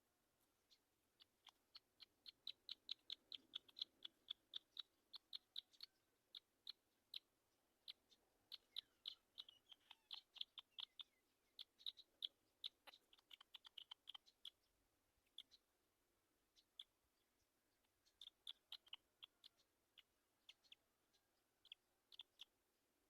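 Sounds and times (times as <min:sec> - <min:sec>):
bird chip calls: 0:00.6 - 0:15.7, 0:16.5 - 0:22.6.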